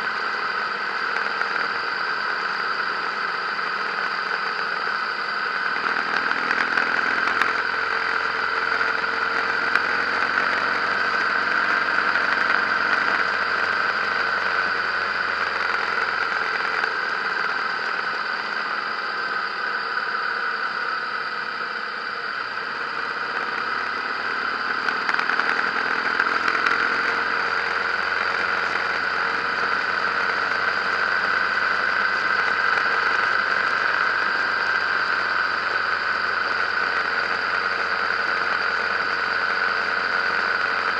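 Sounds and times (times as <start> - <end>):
motorcycle engine drone: 0.0 - 40.9.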